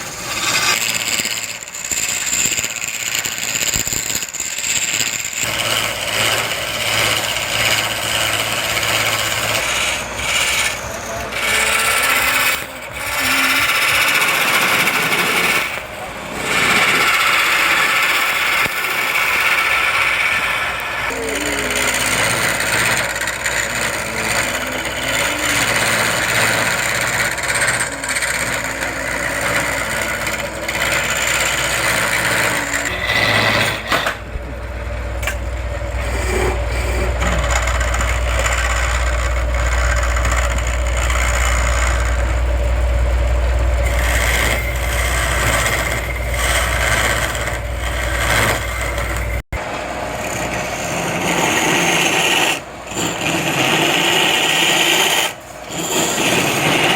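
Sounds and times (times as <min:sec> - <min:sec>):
turning tool cutting wood: 0:00.0 - 0:56.9
wood lathe humming: 0:00.0 - 0:56.9.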